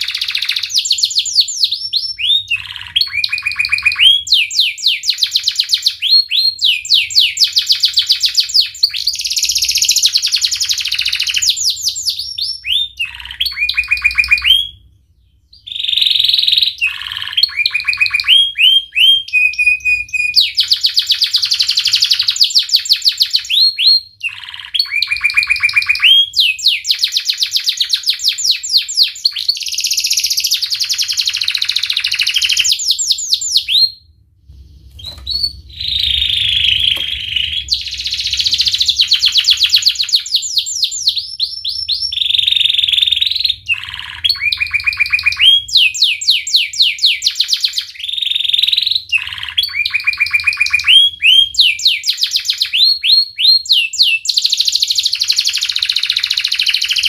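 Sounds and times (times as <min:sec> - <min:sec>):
canary singing: 0:00.0 - 0:34.2, 0:34.9 - 0:57.0.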